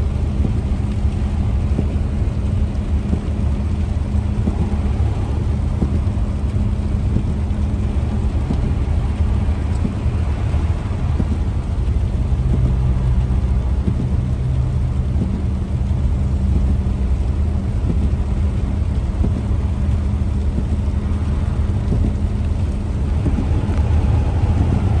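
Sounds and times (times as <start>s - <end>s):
road noise: 0.0s - 25.0s
vehicle engine drone: 0.0s - 25.0s.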